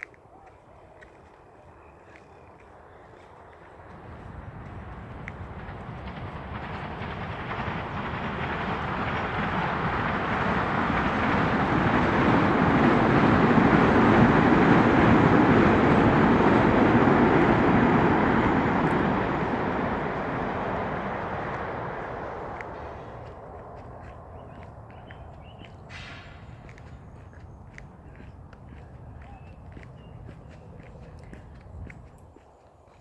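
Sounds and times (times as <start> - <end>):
steady rumbling: 3.8 - 32.2.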